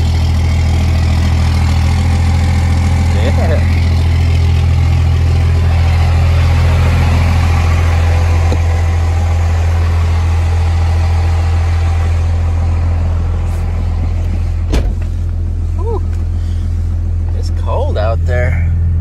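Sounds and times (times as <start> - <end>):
diesel pickup engine idling: 0.0 - 19.0.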